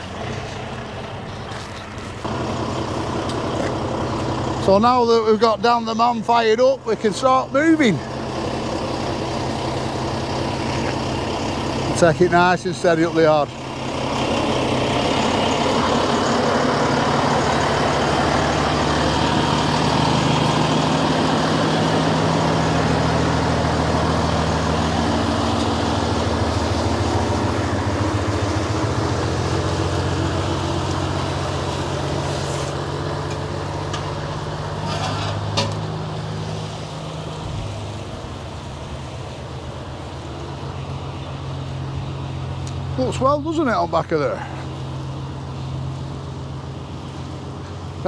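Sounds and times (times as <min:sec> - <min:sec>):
truck diesel engine running: 0:00.0 - 0:48.0.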